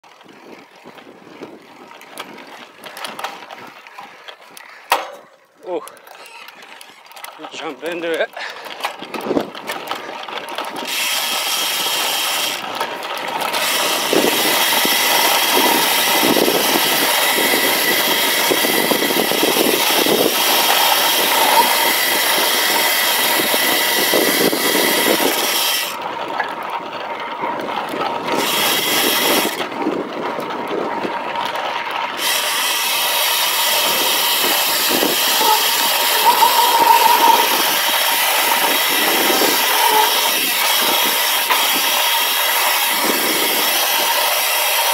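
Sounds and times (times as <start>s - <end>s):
bike tyres rumbling over gravel: 0.0s - 44.9s.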